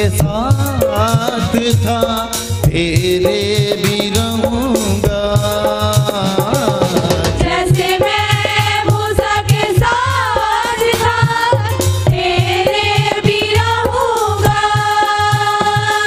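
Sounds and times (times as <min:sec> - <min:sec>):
steady drum beat: 0:00.0 - 0:16.0.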